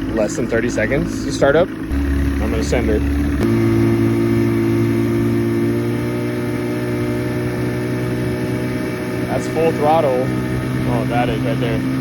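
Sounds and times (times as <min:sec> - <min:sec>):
outboard motor at full throttle: 0:00.0 - 0:12.0.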